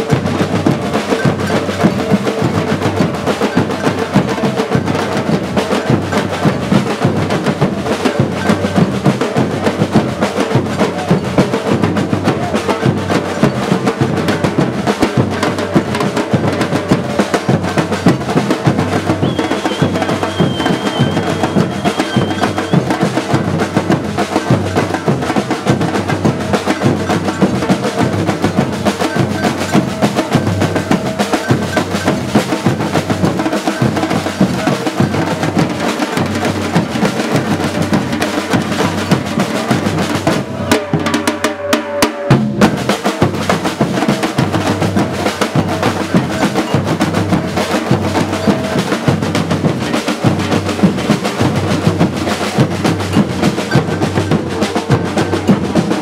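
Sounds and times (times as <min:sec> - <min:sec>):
percussion group drumming: 0:00.0 - 0:56.0.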